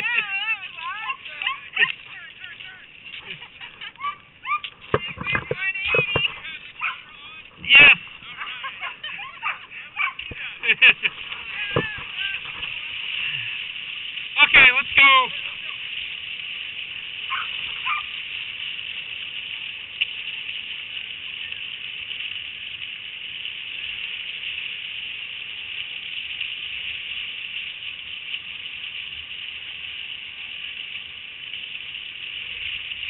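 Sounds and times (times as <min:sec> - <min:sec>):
skis gliding over snow: 0:00.0 - 0:33.0.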